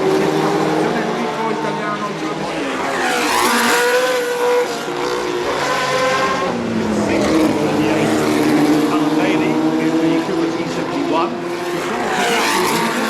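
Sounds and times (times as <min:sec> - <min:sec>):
racing car engines revving: 0:00.0 - 0:13.0
racing car passing by: 0:00.0 - 0:13.0.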